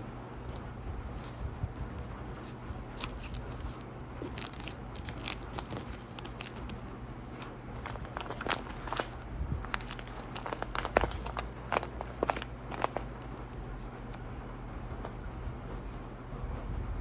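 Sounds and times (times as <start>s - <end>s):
packaging crackling and crinkling: 0.0s - 14.3s
steady low hum: 0.0s - 17.0s.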